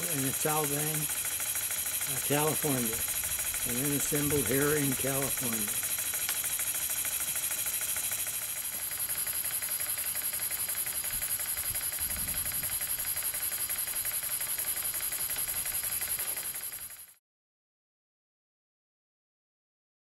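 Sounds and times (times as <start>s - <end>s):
model engine puffing and hissing: 0.0s - 17.1s.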